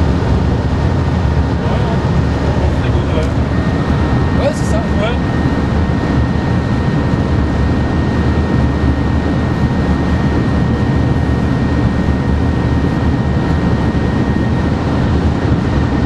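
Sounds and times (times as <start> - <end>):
thin steady whine: 0.0 - 16.0
train rumble and rush: 0.0 - 16.0.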